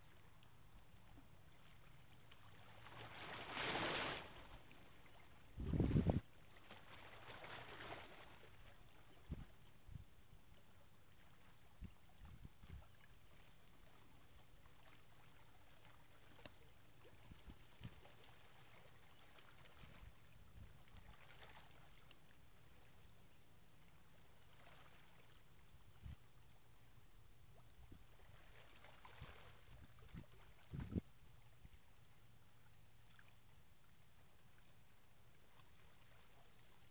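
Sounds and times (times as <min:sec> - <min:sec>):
faint low outdoor rumble: 0:00.0 - 0:36.9.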